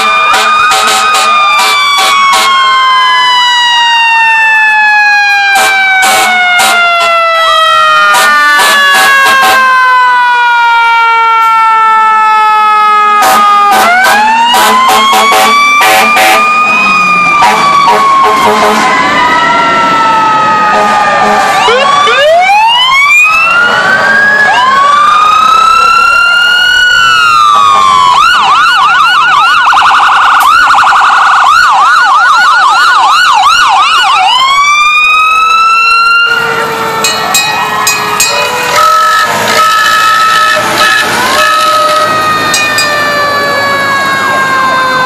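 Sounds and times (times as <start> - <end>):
fire engine sirens wailing: 0.0 - 45.0.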